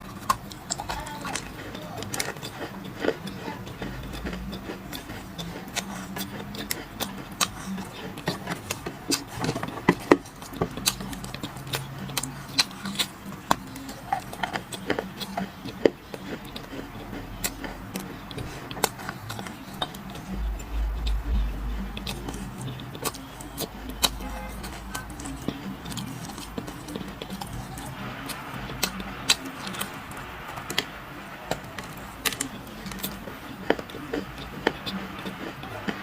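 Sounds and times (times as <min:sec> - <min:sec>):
dry clay crunching: 0:00.0 - 0:36.0.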